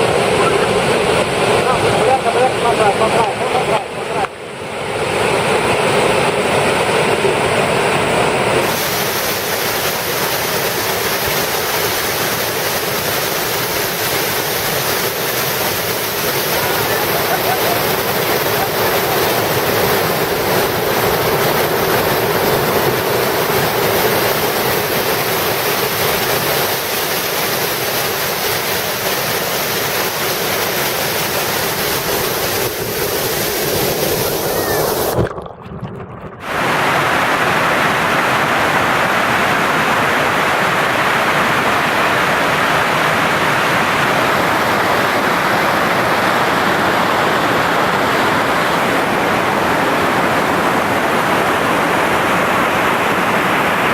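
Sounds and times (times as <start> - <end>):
waterfall rushing: 0.0 - 35.4, 36.4 - 53.9.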